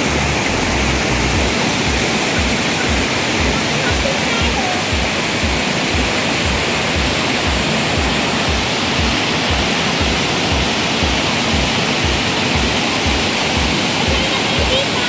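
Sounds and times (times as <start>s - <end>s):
background music with low beat: 0.0s - 14.8s
waterfall rushing over rocks: 0.0s - 15.0s.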